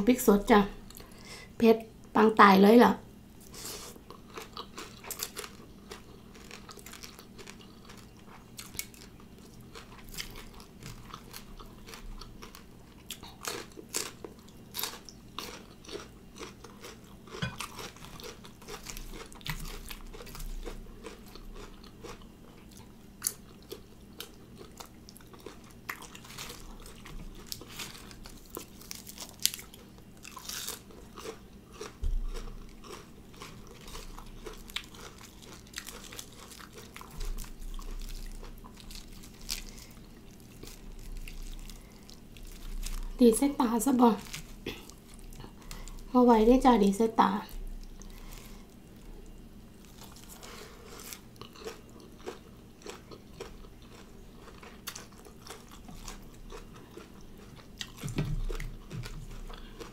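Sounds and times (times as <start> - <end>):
chewing with crisp crunches: 3.4 - 46.2, 47.4 - 59.9.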